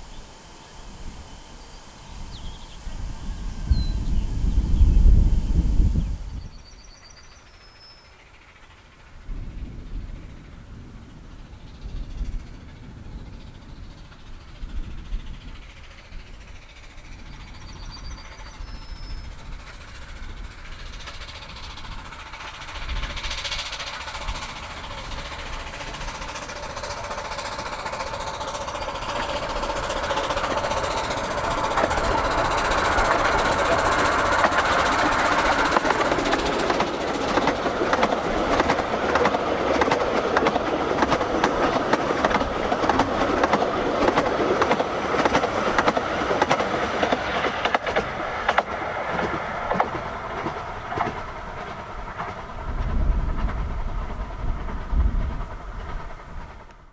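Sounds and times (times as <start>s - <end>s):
steam locomotive approaching: 0.0s - 56.9s
train wheels clattering over rails: 6.4s - 56.9s.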